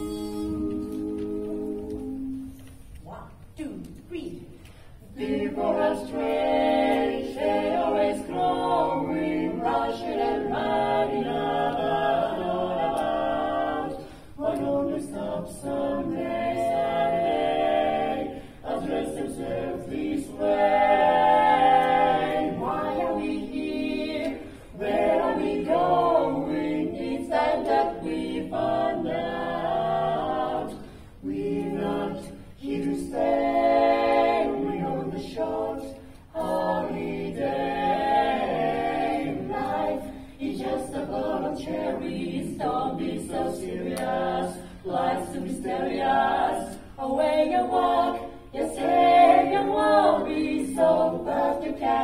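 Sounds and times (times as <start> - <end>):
quartet singing in harmony: 0.0 - 2.8, 5.0 - 52.0.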